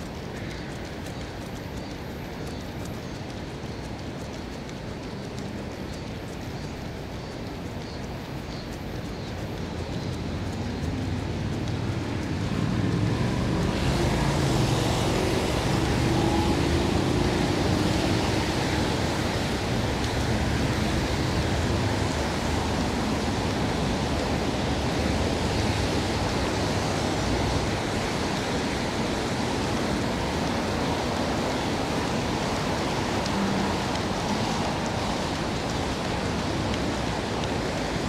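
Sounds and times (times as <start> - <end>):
rainfall: 0.0 - 38.0
traffic on wet roads: 0.0 - 38.0.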